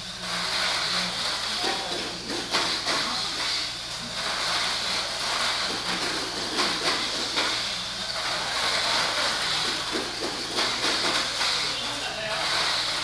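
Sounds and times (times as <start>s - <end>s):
toy cars high-pitched whir: 0.0s - 13.0s.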